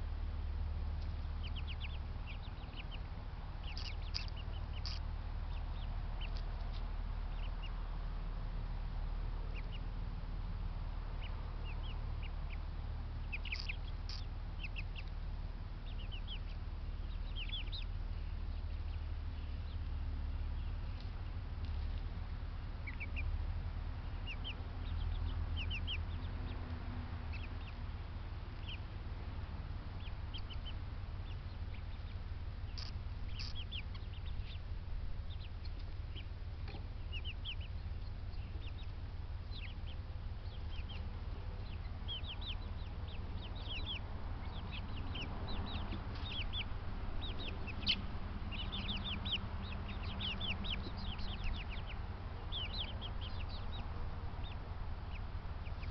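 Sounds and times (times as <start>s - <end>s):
birds chirping: 0.0s - 55.9s
steady low rumble: 0.0s - 55.9s.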